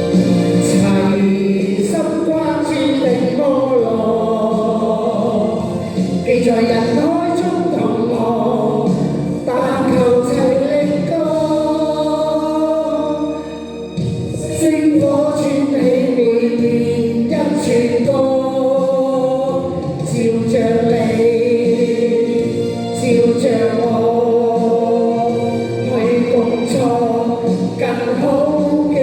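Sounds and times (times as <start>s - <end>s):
backing music: 0.0s - 29.0s
person singing pop song: 0.0s - 29.0s.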